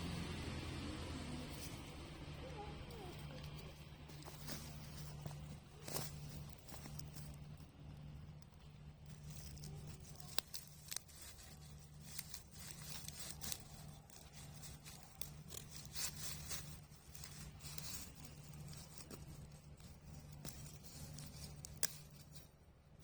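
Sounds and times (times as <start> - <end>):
fire crackling and popping: 0.0 - 22.6.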